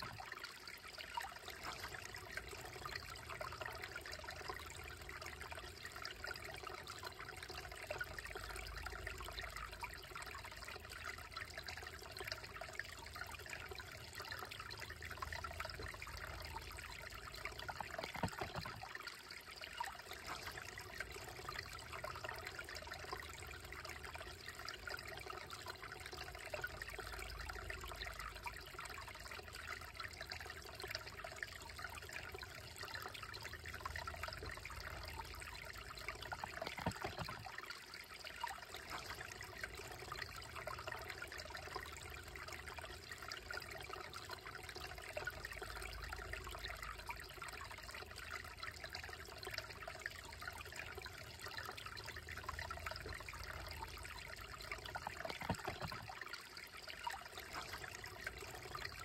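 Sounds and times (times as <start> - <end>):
creek trickling over rocks: 0.0 - 59.0.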